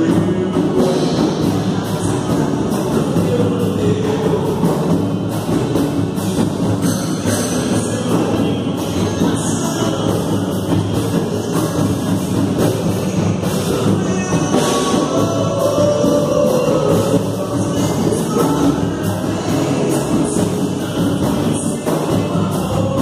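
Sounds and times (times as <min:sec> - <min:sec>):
hand drums groove: 0:00.0 - 0:23.0
strummed acoustic guitars: 0:00.0 - 0:23.0.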